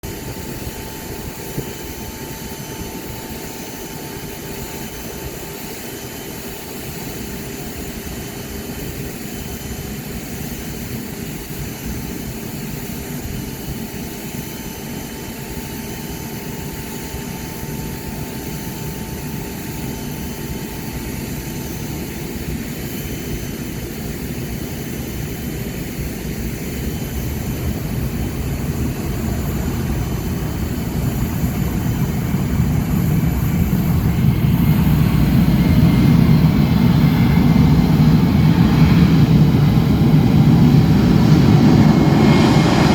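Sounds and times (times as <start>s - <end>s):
jet engines whining hum: 0.0s - 42.9s.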